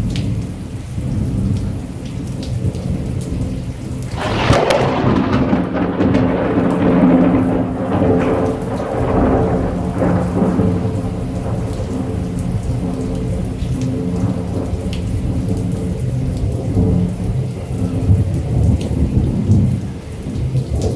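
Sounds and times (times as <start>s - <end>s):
heavy rain: 0.0s - 20.9s
thunder rumbling: 0.0s - 20.9s.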